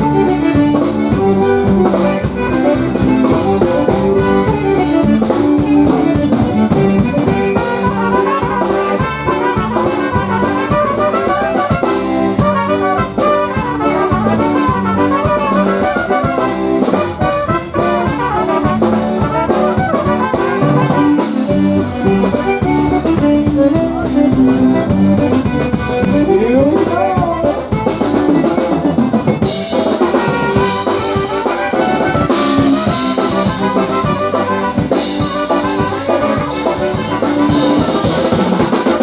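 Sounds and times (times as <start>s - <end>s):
polka band with brass: 0.0s - 39.0s.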